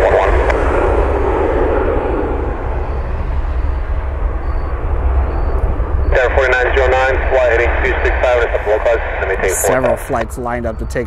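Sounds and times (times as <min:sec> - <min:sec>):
heavy low rumble: 0:00.0 - 0:11.0
jet engines at takeoff power: 0:00.0 - 0:11.0.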